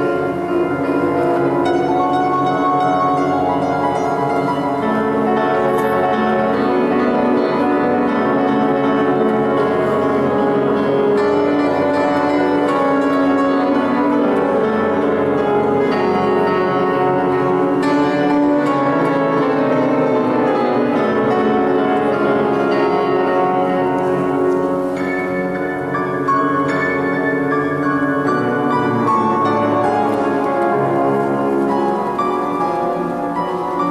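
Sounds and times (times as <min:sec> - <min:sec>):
grand piano classical solo: 0:00.0 - 0:33.9.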